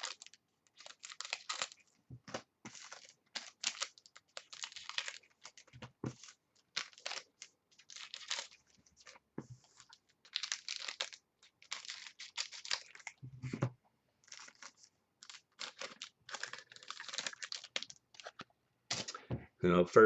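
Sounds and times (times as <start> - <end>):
card pack wrappers tearing: 0.0 - 1.8, 2.7 - 9.2, 9.8 - 13.2, 14.2 - 19.2.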